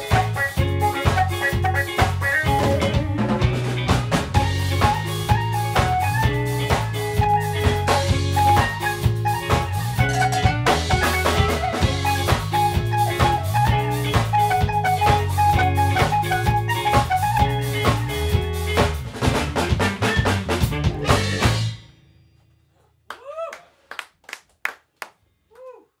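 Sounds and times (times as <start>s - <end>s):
band playing funk groove: 0.0s - 21.8s.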